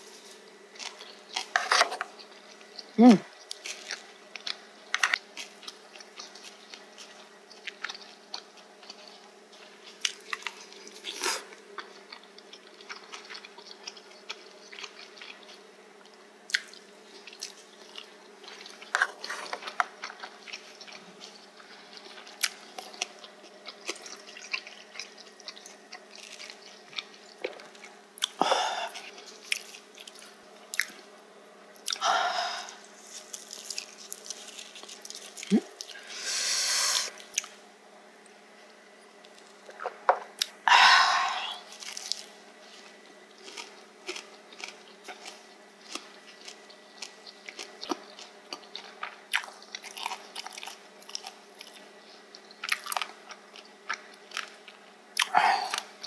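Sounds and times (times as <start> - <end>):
person chewing crunchy food: 0.0 - 31.2, 31.8 - 36.1, 38.7 - 56.0.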